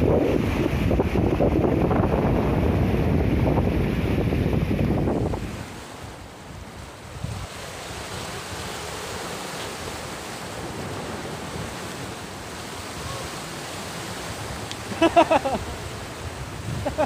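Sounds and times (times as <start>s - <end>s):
waves breaking on rocks: 0.0s - 17.0s.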